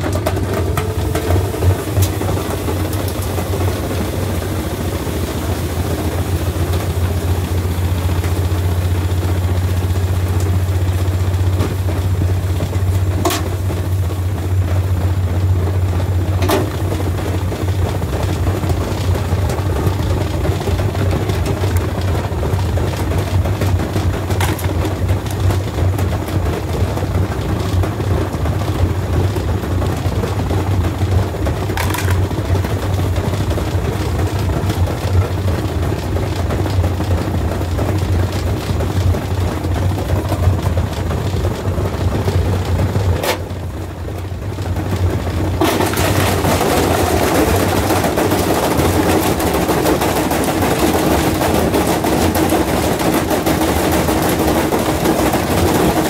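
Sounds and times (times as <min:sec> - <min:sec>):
washing machine running: 0:00.0 - 0:56.0.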